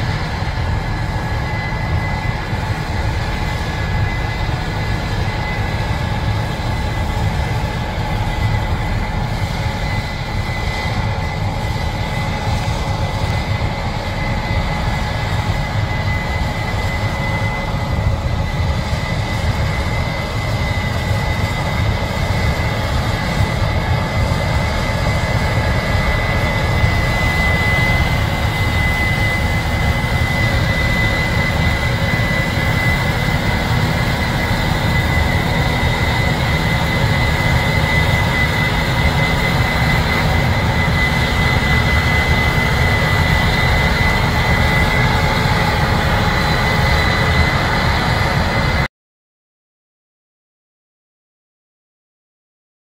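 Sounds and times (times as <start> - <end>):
tractor running: 0.0 - 48.8
combine harvester droning and whining: 0.0 - 48.9.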